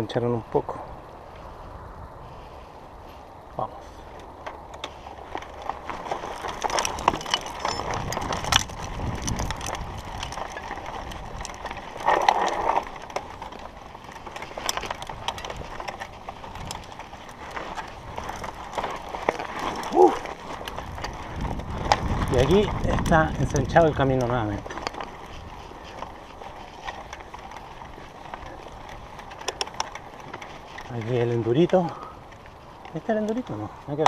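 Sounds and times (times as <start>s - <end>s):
bike clicking and rattling: 0.0s - 34.0s
bike tyres rolling over dirt: 0.0s - 34.0s.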